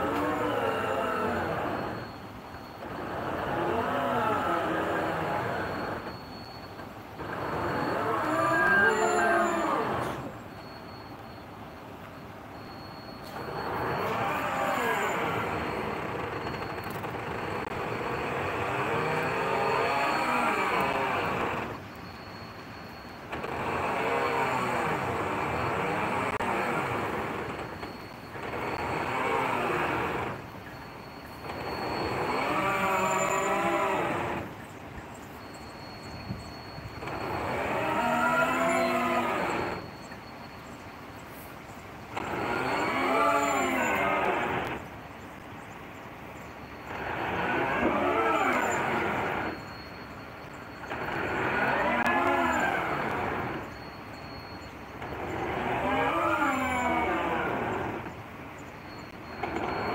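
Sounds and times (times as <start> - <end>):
metal grinding and squealing: 0.0 - 45.2, 46.0 - 59.9.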